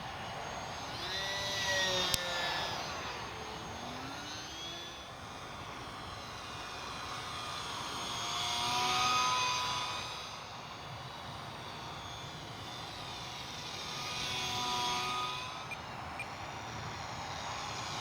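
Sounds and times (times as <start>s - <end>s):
model plane motor whining: 0.0s - 18.0s.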